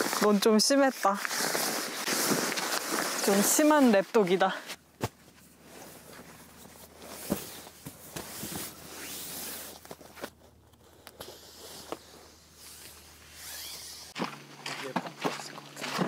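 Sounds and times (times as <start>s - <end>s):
rustling of camping gear: 0.0s - 16.0s.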